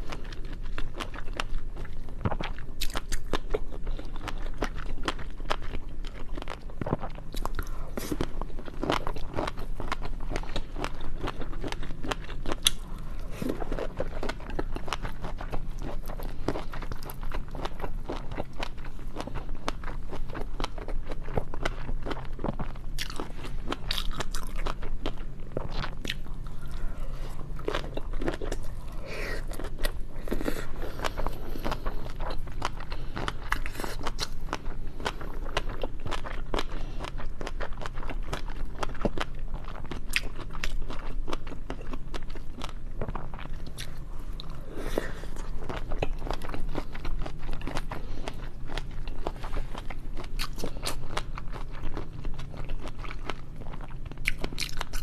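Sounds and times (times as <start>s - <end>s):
chewing with crisp crunches: 0.0s - 55.0s.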